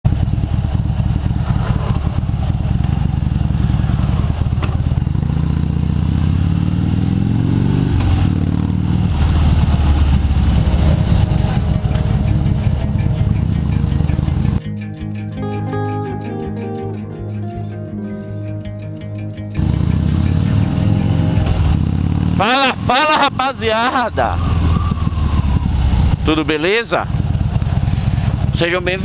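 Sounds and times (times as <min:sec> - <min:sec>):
motorcycle engine revving: 0:00.1 - 0:29.0.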